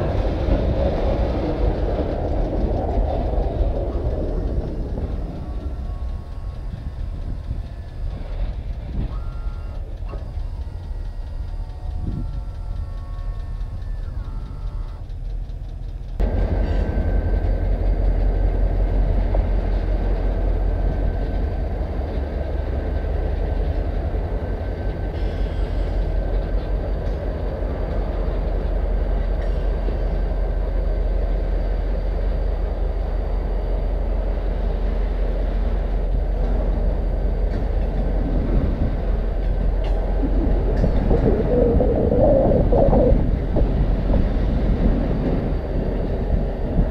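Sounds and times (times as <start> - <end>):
freight train rumbling past: 0.0 - 46.9.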